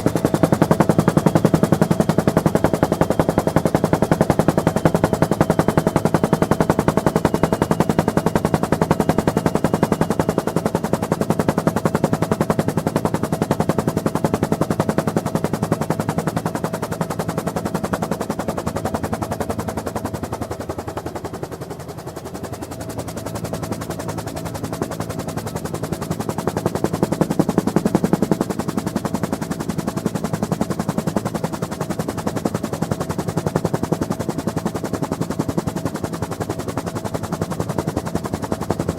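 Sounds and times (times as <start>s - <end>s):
helicopter rotor blade chop: 0.0s - 38.9s.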